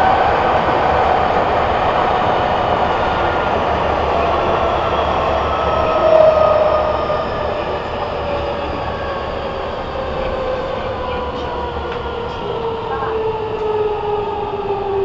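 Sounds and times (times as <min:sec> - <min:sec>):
train wheel rumble: 0:00.0 - 0:15.0.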